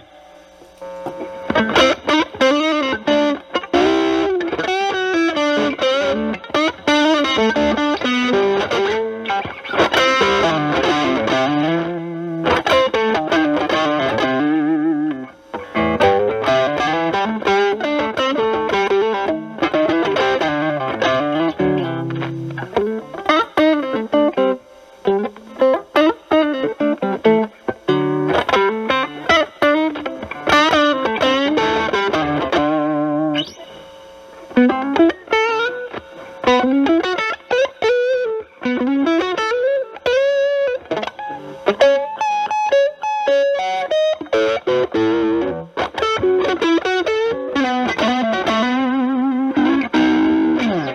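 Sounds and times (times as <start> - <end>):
distorted electric guitar lead lines: 0.0 - 50.9.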